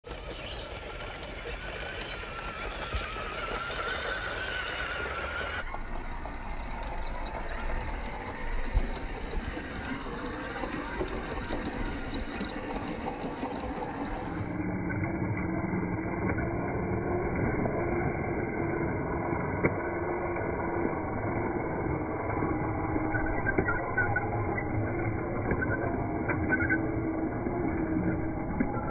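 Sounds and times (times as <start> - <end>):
toy truck electric motor whining: 0.0 - 28.9.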